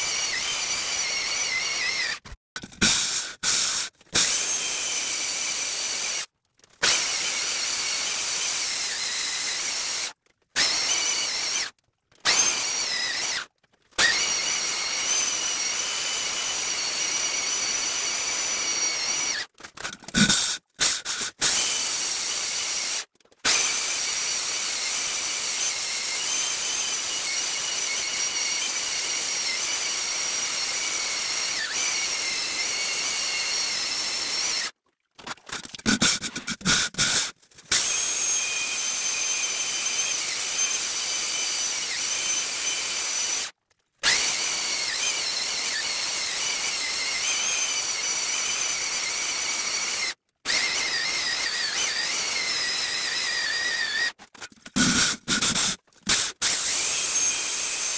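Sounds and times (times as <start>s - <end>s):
core drill grinding stone: 0.0s - 57.9s.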